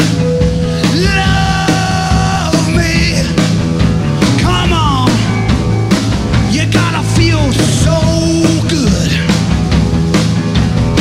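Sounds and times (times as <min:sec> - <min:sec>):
bending lead guitar notes: 0:00.0 - 0:11.0
rock band playing live: 0:00.0 - 0:11.0.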